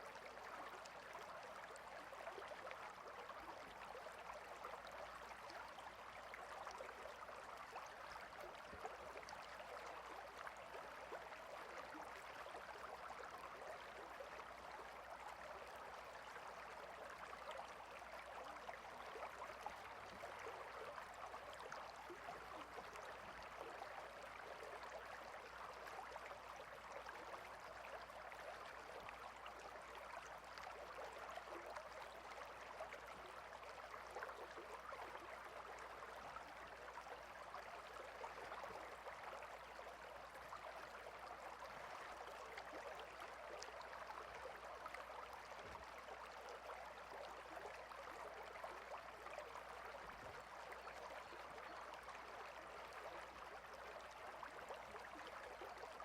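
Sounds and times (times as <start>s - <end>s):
small stream trickling: 0.0s - 56.0s.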